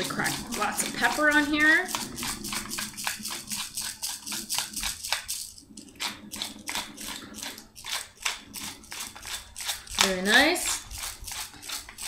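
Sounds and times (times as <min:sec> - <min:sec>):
pepper mill grinding: 0:00.0 - 0:12.0.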